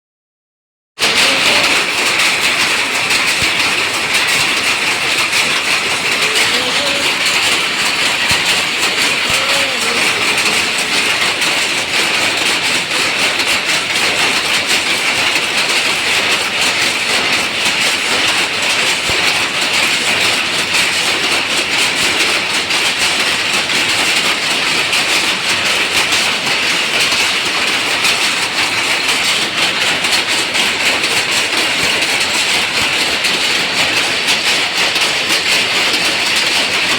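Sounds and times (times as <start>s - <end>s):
power loom clattering: 1.0s - 36.9s.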